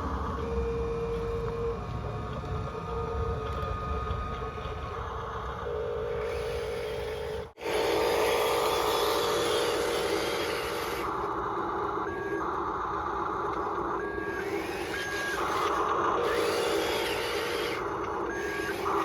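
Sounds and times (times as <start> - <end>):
small electric motors whirring: 0.0 - 19.0.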